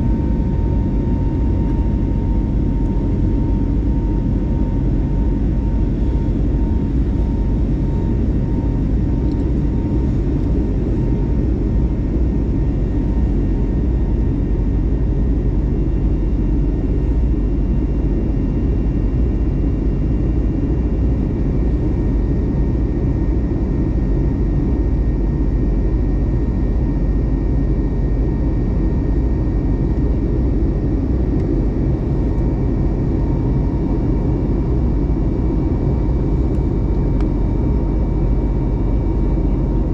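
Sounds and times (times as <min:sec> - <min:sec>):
aircraft cabin rumble: 0:00.0 - 0:39.9
faint steady hums: 0:00.0 - 0:39.9.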